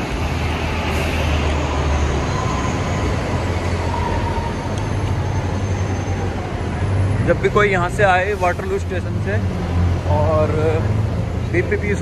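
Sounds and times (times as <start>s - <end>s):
heavy traffic rumble: 0.0s - 12.0s.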